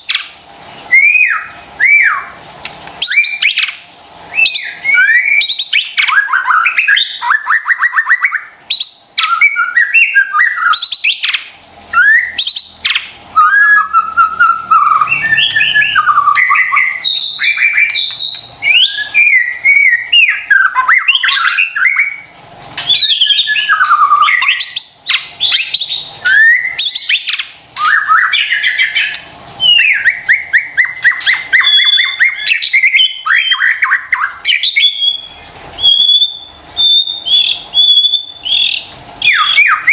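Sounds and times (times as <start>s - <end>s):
songbird whistling and trilling: 0.9s - 2.4s, 3.0s - 11.4s, 12.0s - 39.9s.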